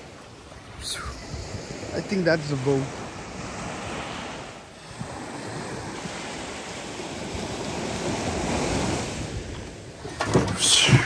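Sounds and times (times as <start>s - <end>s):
waves washing up a beach: 0.0s - 11.0s.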